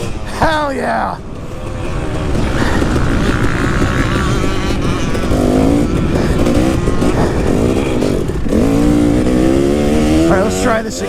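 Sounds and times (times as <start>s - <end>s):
motocross engine revving: 0.0s - 11.0s.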